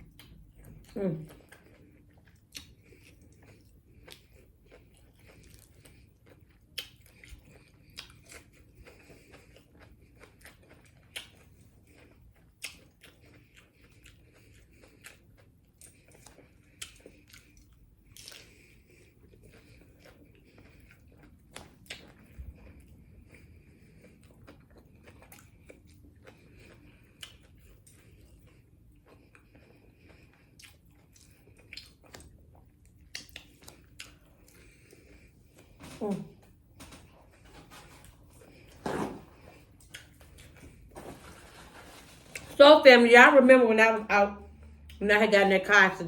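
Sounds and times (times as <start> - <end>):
person chewing tacos: 0.0 - 42.6, 44.4 - 45.0.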